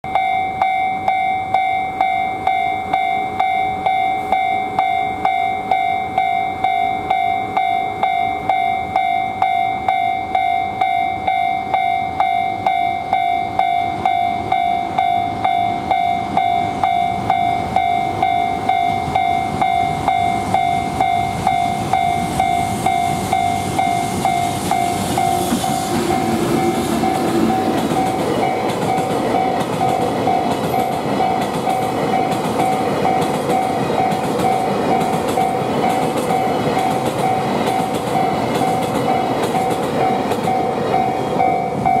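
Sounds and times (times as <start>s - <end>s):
level crossing warning bell: 0.0s - 42.0s
train wheels clacking on rails: 0.1s - 42.0s.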